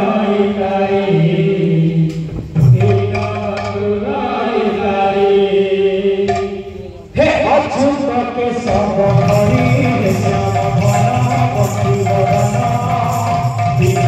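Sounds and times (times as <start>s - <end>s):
voices chanting together: 0.0s - 14.0s.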